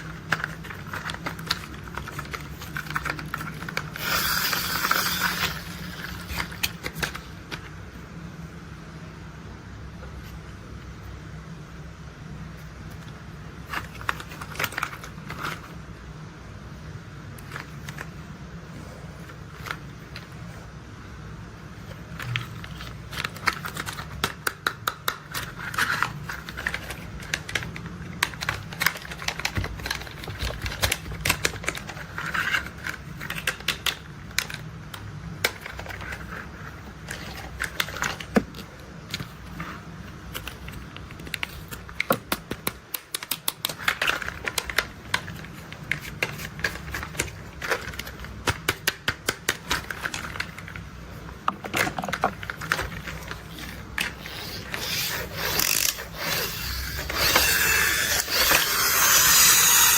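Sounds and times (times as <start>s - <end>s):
plastic toys clicking and clattering: 0.0s - 7.7s, 13.0s - 15.8s, 21.8s - 59.9s.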